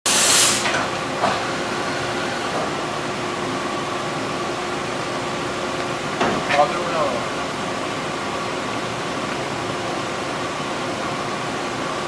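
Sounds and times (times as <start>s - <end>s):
machine hum and hiss: 0.1s - 12.0s.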